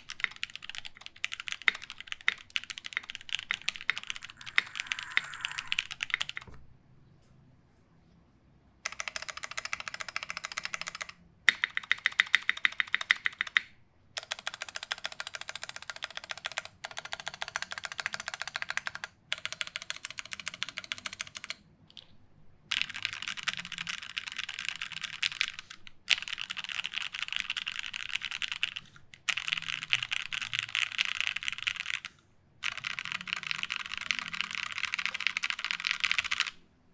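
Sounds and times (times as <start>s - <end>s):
mechanical keyboard typing: 0.0s - 6.6s, 8.8s - 22.1s, 22.7s - 36.6s.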